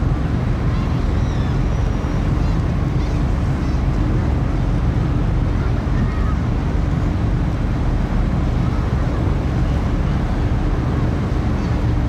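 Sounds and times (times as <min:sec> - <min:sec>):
sea water rushing along hull: 0:00.0 - 0:12.0.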